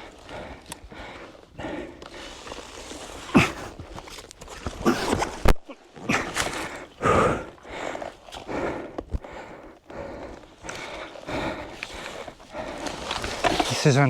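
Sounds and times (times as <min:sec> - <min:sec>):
person panting and grunting: 0:00.0 - 0:02.2, 0:03.2 - 0:04.0, 0:04.8 - 0:13.2.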